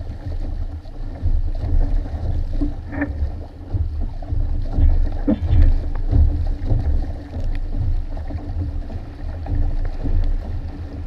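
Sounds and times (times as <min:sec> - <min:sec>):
water rushing along hulls: 0:00.0 - 0:11.0
wind buffeting microphone: 0:00.0 - 0:11.0.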